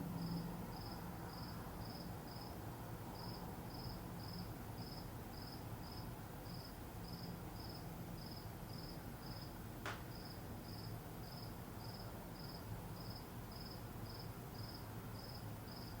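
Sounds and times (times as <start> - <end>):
cricket chirping: 0.2 - 2.6, 3.2 - 9.5, 10.1 - 16.0.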